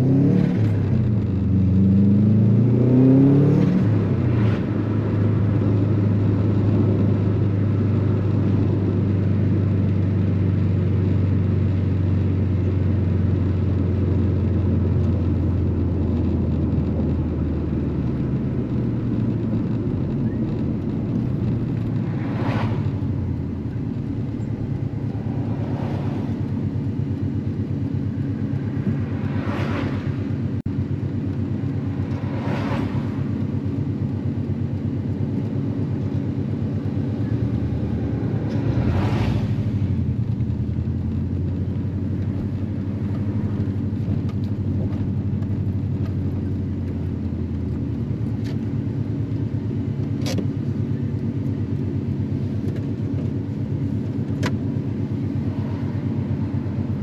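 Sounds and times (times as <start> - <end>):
car engine cruising: 0.0 - 57.0
road noise: 0.0 - 57.0.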